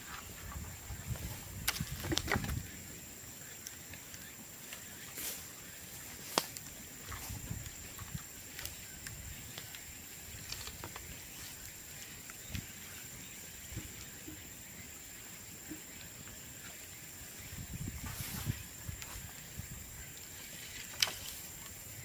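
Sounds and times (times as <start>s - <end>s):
bamboo bonfire crackling: 1.4s - 22.0s.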